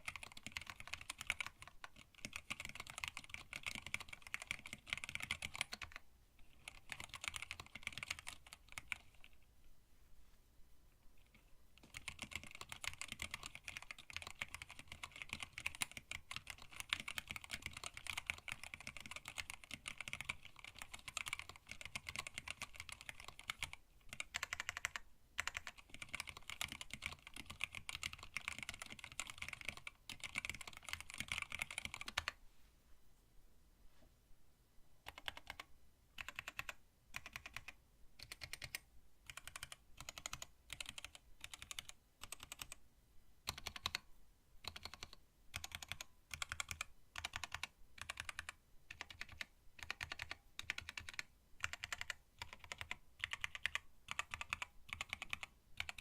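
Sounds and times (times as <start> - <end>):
mechanical keyboard typing: 0.0 - 9.4, 11.2 - 32.4, 35.0 - 42.8, 43.4 - 56.0.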